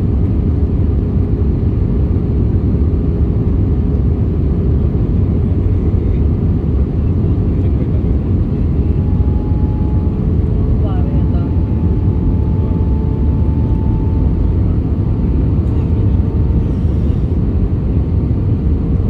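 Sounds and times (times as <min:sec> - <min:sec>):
jet engine and airflow rumble: 0:00.0 - 0:19.0.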